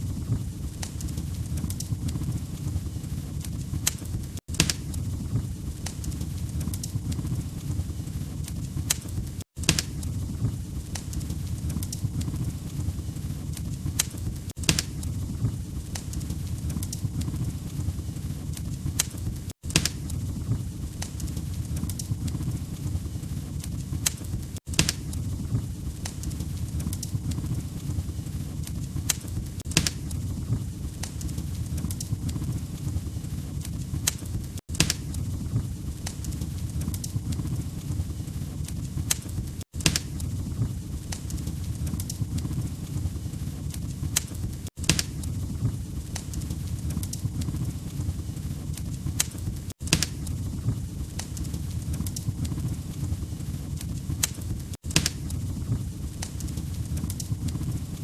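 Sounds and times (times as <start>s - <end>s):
low rumble of flames: 0.0s - 58.0s
wood fire crackling in fireplace: 0.0s - 58.0s.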